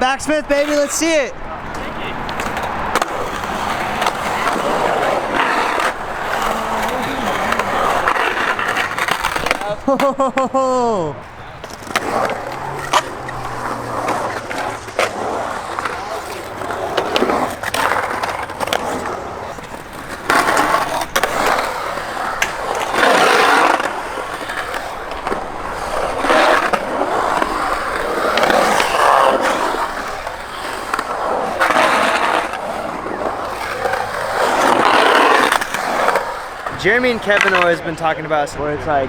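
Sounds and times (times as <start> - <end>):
skateboard clacks: 0.0 - 10.5, 11.2 - 38.1
skateboard wheels rolling on concrete: 0.0 - 39.0.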